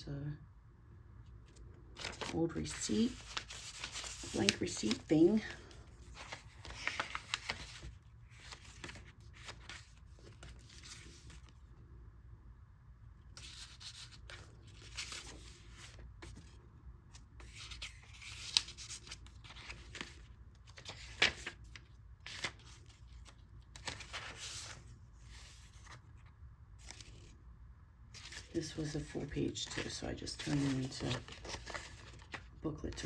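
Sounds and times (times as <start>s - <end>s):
paper pages rustling: 1.4s - 11.7s, 13.3s - 27.4s, 28.1s - 33.0s.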